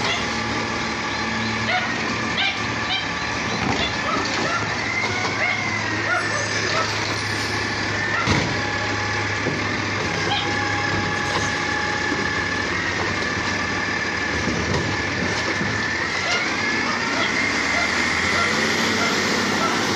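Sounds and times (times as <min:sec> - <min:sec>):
garbage truck engine running: 0:00.0 - 0:19.9.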